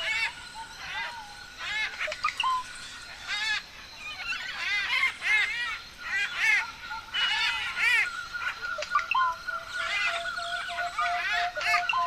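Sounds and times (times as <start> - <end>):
birds honking harshly: 0.0 - 12.0.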